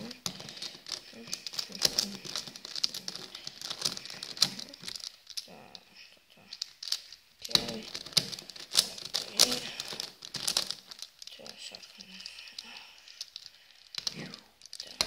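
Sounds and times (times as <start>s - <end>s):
plastic puzzle clicking: 0.0s - 15.0s.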